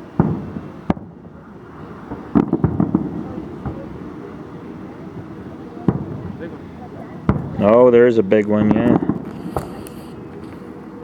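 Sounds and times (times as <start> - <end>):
fireworks crackling: 0.0 - 11.0
fireworks exploding: 0.0 - 11.0.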